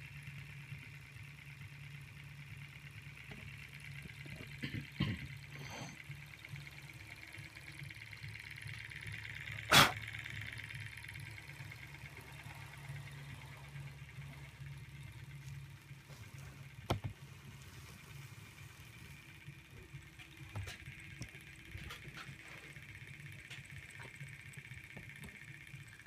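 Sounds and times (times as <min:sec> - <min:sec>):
engine mechanical whir: 0:00.0 - 0:26.0.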